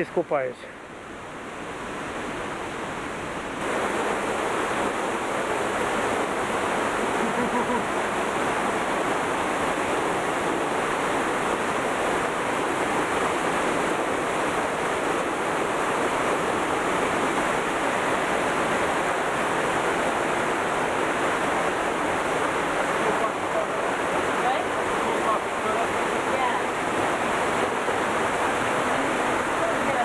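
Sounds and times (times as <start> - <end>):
river rushing over boulders: 0.0 - 30.0.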